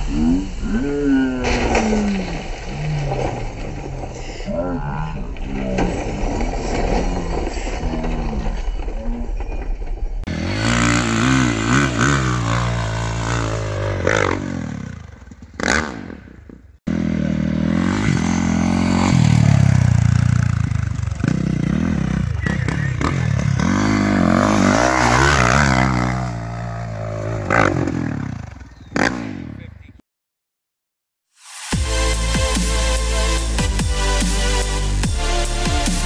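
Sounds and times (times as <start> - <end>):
dirt bike engines revving: 0.0 - 9.5, 10.3 - 30.0.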